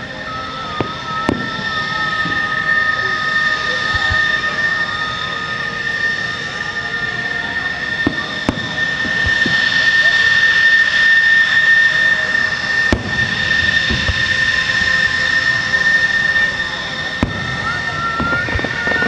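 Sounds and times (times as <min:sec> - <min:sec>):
jet engines whining at idle: 0:00.0 - 0:19.0.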